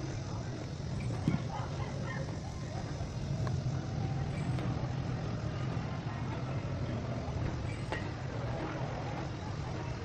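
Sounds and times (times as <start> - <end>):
vehicle engine drone: 0.0 - 10.0.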